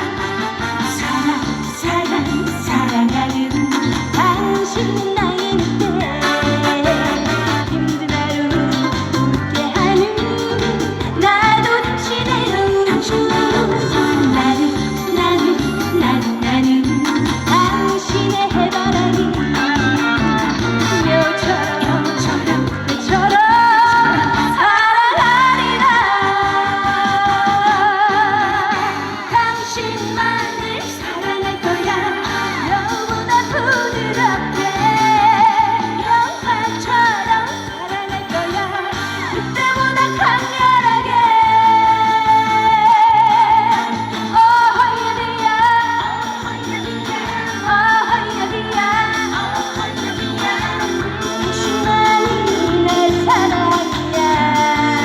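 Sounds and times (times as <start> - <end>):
band backing track: 0.0 - 55.0
woman singing: 0.0 - 55.0.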